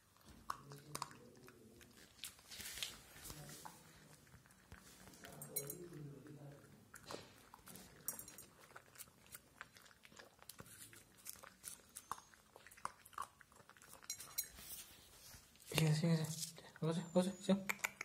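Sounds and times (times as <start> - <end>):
puppy crunching dry kibble: 0.0 - 18.0.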